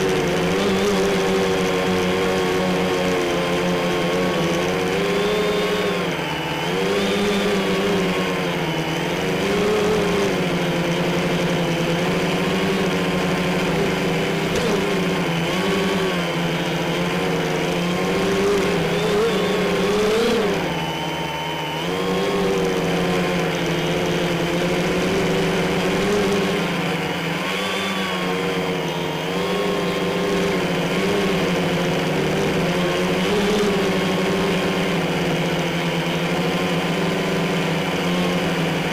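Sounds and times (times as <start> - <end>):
quadcopter motors buzzing: 0.0 - 38.9.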